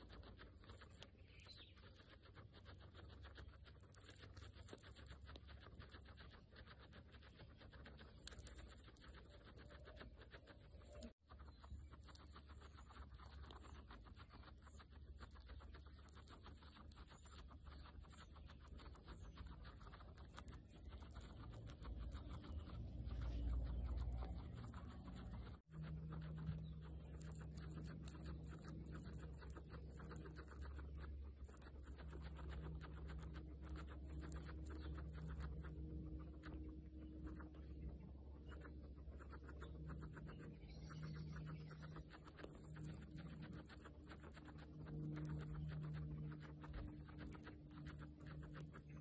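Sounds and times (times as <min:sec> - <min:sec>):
faint low hum: 0:00.0 - 0:49.0
guinea pigs chewing grass: 0:00.0 - 0:49.0.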